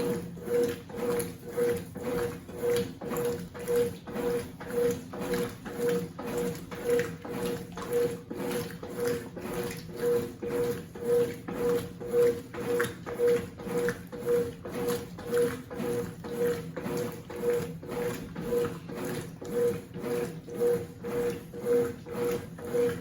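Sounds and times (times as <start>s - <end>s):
washing machine motor humming: 0.0s - 23.0s
water churning: 0.0s - 23.0s.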